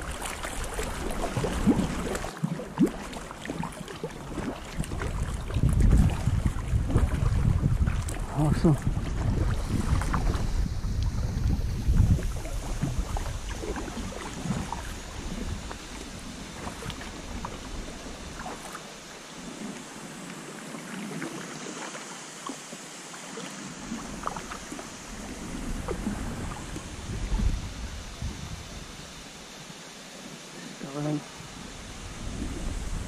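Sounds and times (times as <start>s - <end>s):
wind on microphone: 0.0s - 21.4s, 23.6s - 33.0s
water splashing from paddling: 0.0s - 33.0s.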